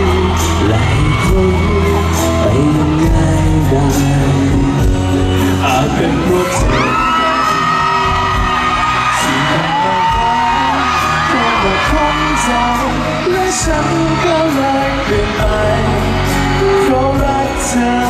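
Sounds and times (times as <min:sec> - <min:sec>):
people whooping: 0:00.0 - 0:04.6, 0:05.4 - 0:18.0
pop band playing: 0:00.0 - 0:18.0
steady drum beat: 0:00.0 - 0:18.0.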